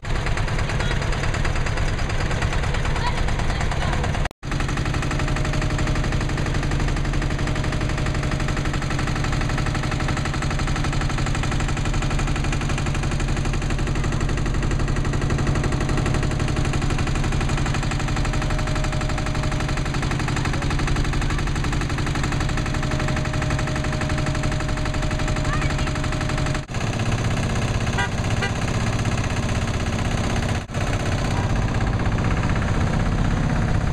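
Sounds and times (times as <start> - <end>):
different engine sound: 0.0 - 33.9
tractor engine running: 0.0 - 33.9.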